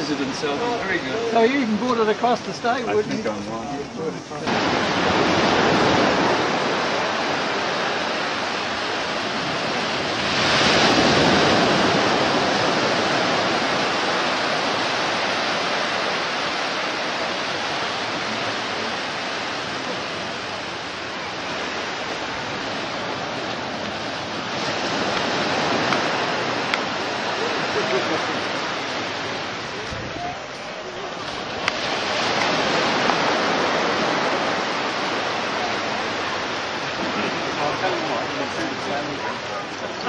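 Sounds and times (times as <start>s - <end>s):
waves washing on beach: 0.0s - 40.0s.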